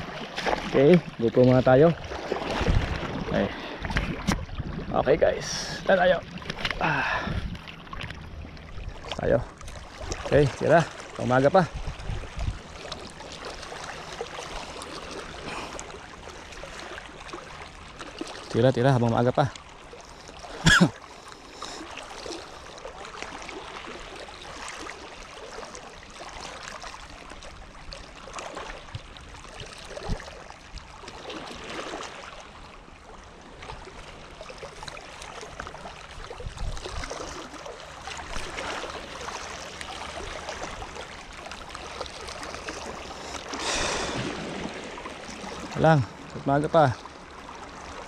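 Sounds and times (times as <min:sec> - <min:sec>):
seawater lapping and sloshing: 0:00.0 - 0:48.0.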